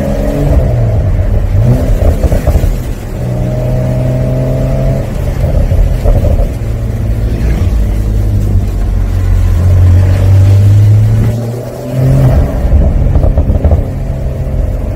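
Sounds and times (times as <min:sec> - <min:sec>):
car engine and exhaust running: 0:00.0 - 0:14.9.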